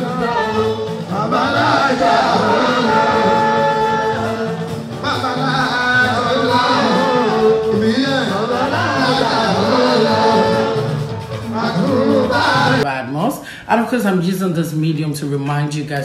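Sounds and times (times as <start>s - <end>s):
person singing with music: 0.0s - 12.9s.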